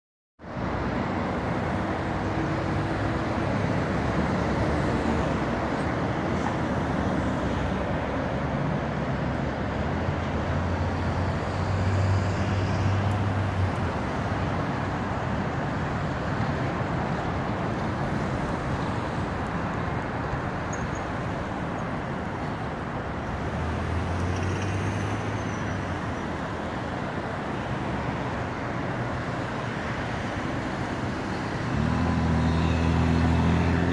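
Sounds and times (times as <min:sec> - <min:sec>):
hum of passing vehicles: 0:00.4 - 0:33.9.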